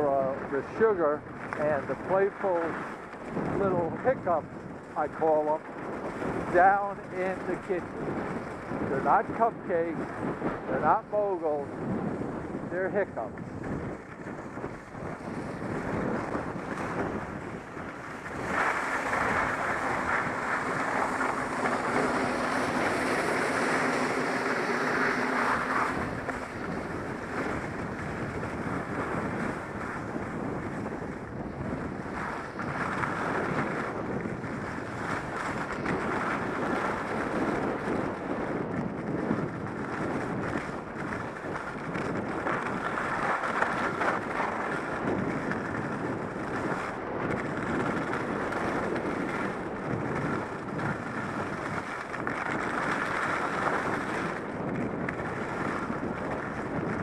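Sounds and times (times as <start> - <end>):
skis scraping over snow: 0.0 - 57.0
wind buffeting microphone: 0.0 - 57.0.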